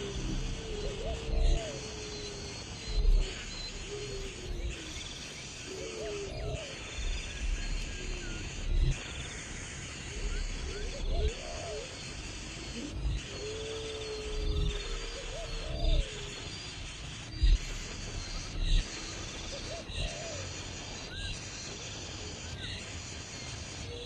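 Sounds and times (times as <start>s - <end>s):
birds cooing: 0.0s - 21.4s
high insect-like hiss: 0.0s - 24.0s.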